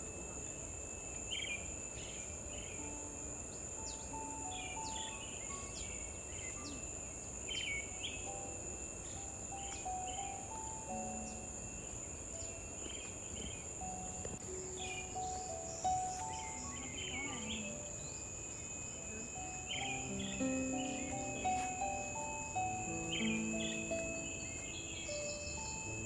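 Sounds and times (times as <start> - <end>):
bird chirps: 0.0 - 26.0
high-pitched insect drone: 0.0 - 26.0
soft background music: 0.0 - 26.0.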